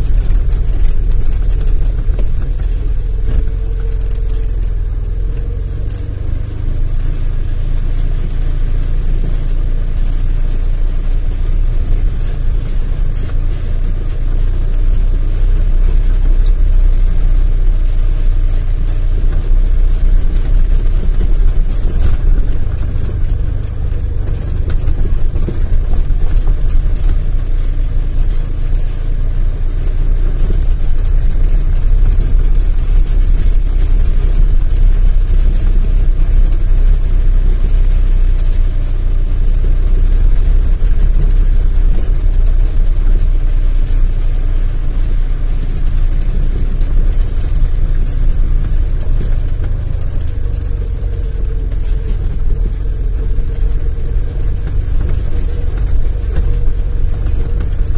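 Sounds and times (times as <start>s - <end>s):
car engine low rumble: 0.0s - 57.9s.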